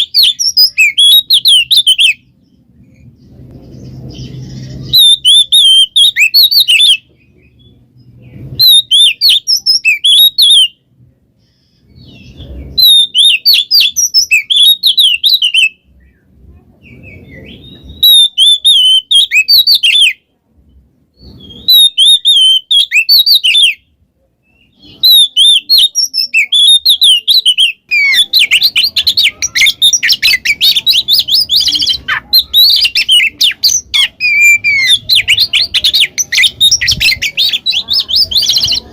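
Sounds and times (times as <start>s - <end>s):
bird singing whistled notes: 0.0s - 2.6s, 3.7s - 10.8s, 11.9s - 16.2s, 16.9s - 20.2s, 21.2s - 23.8s, 24.5s - 38.9s.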